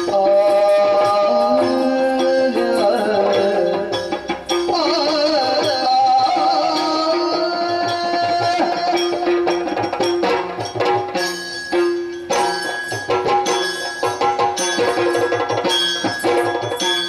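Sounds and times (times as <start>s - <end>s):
rapid drum strokes: 0.0s - 17.0s.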